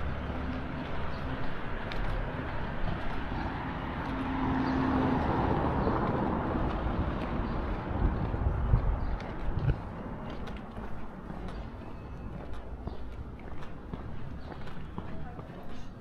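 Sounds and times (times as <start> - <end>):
motor vehicle passing: 0.0 - 15.3
street ambience: 0.0 - 16.0.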